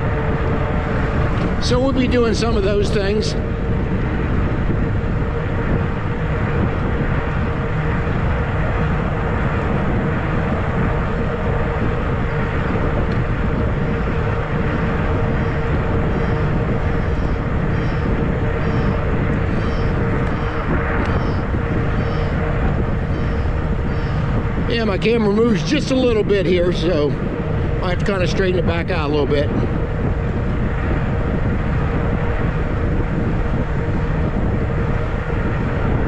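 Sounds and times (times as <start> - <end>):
steady hum: 0.0 - 36.0
wind buffeting microphone: 0.0 - 36.0.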